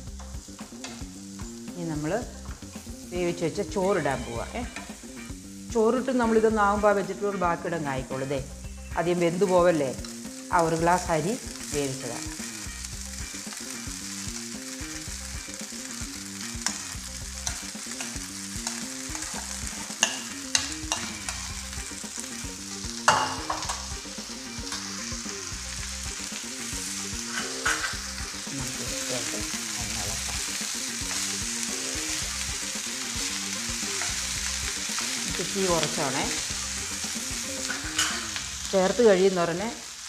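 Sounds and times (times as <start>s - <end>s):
food sizzling in frying pan: 0.0s - 40.0s.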